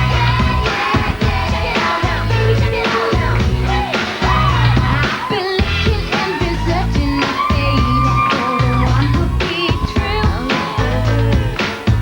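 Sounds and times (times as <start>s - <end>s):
heavy pulsing bass beat: 0.0s - 12.0s
person singing pop song: 0.0s - 12.0s.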